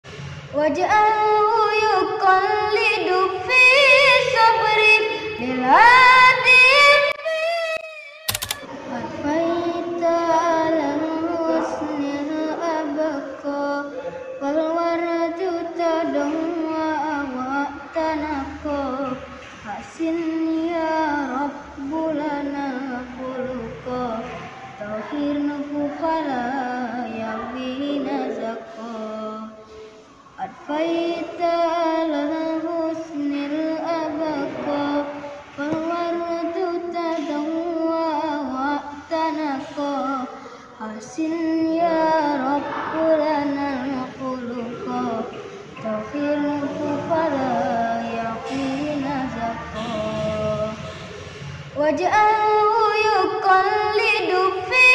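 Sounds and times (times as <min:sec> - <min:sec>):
boy singing unaccompanied: 0:00.6 - 0:07.8, 0:08.8 - 0:29.6, 0:30.3 - 0:51.1, 0:51.8 - 0:54.9.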